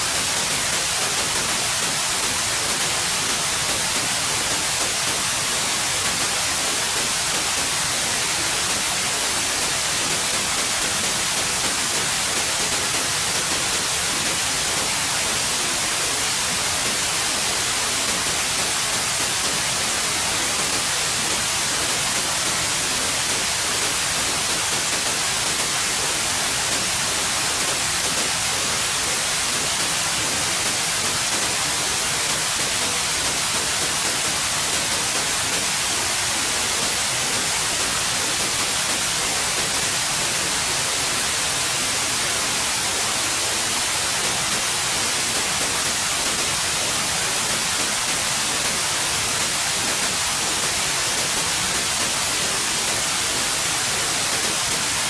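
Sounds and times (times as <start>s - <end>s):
steady white noise hiss: 0.0s - 55.0s.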